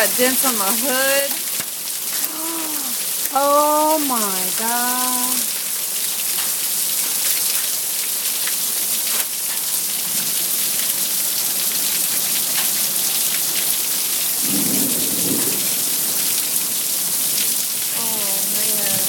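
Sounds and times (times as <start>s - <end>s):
hail pounding cars: 0.0s - 5.4s, 6.3s - 19.0s.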